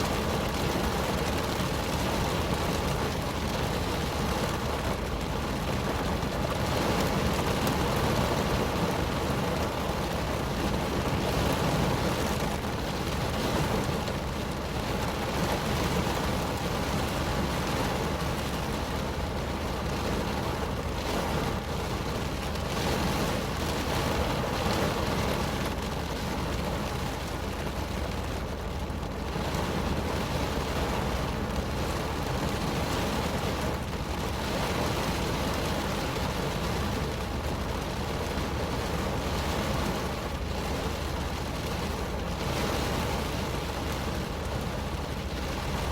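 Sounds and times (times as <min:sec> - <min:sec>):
rain drumming on car roof: 0:00.0 - 0:45.9.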